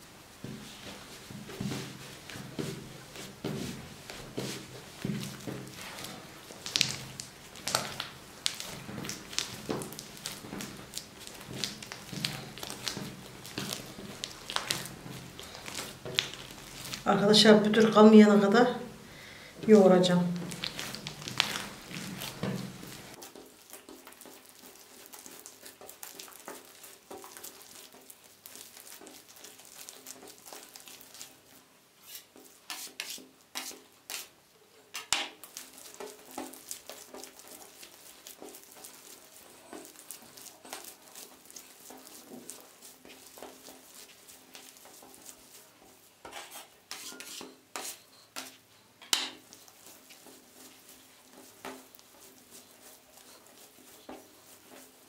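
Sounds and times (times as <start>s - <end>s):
dough squishing: 0.0s - 55.0s.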